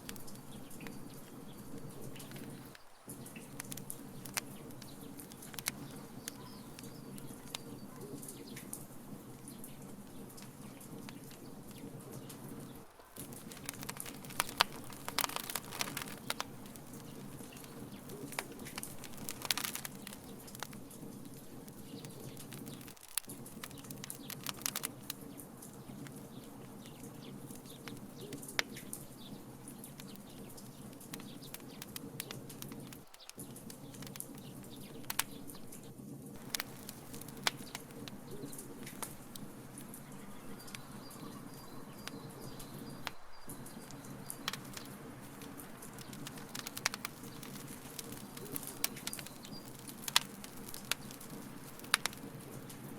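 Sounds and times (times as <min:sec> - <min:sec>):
fire snaps and pops: 0:00.0 - 0:52.9
low rumble of burning: 0:00.0 - 0:52.9
wood fire crackling: 0:00.0 - 0:52.9.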